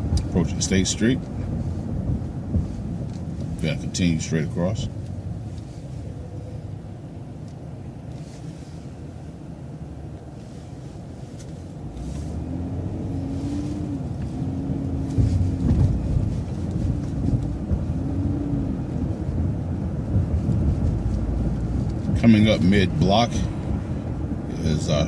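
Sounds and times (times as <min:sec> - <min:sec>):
bus engine rumble: 0:00.0 - 0:25.0
road noise: 0:00.0 - 0:25.0.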